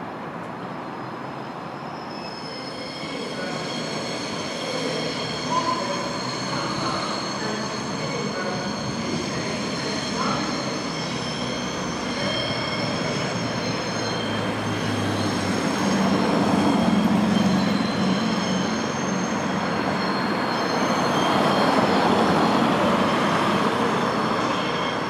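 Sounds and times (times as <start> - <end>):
train wheels squealing: 0.6 - 25.0.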